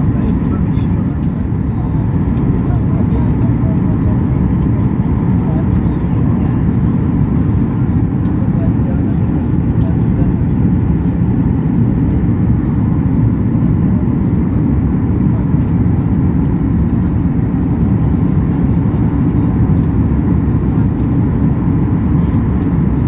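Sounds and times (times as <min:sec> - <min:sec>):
airliner cabin noise: 0:00.0 - 0:23.0.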